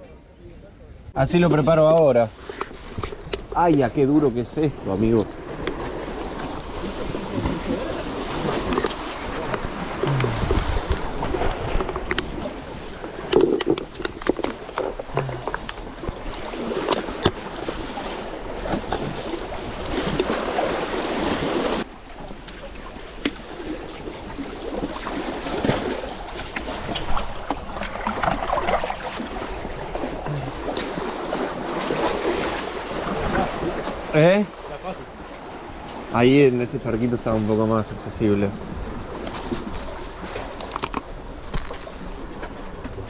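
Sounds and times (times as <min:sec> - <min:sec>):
water sloshing and splashing: 0:01.8 - 0:43.0.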